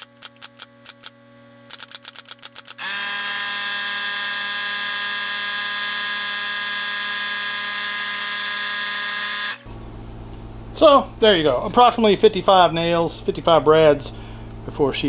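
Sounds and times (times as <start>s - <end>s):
air compressor motor running: 0.0s - 15.0s.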